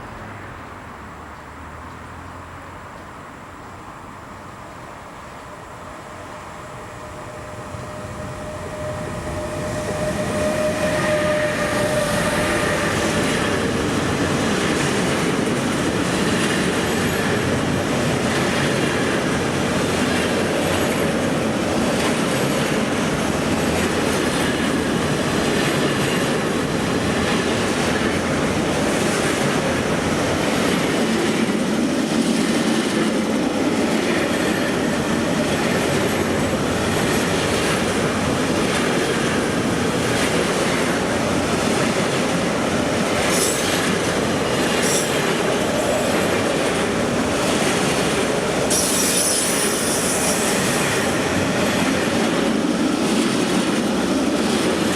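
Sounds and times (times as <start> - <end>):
locomotive whine: 3.6 - 54.9.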